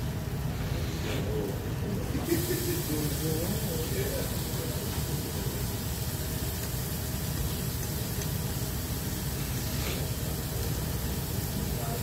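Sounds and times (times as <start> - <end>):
even hiss: 2.2 - 12.0.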